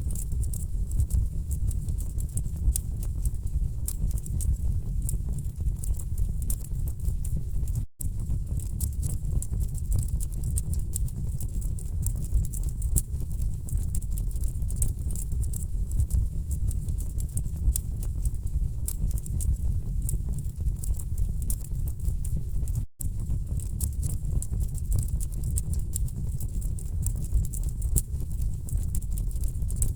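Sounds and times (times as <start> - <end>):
low rumble of flames: 0.0 - 29.9.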